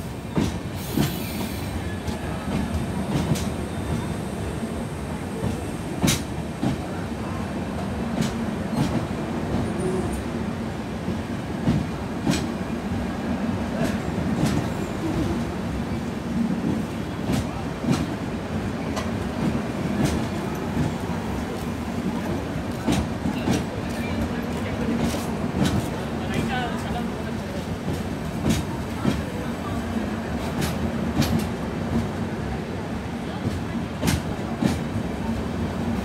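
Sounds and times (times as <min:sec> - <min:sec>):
train coaches rumbling past: 0:00.0 - 0:36.0.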